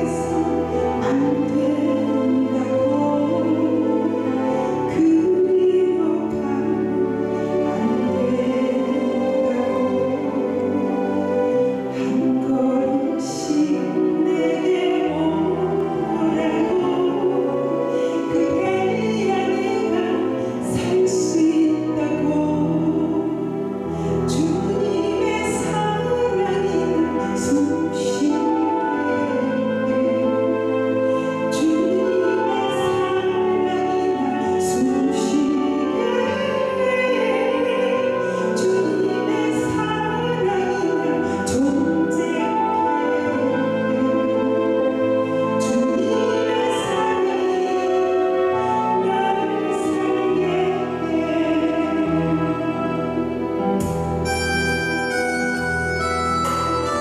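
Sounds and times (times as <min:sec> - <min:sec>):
woman singing worship song: 0:00.0 - 0:54.1
instrumental accompaniment: 0:00.0 - 0:57.0.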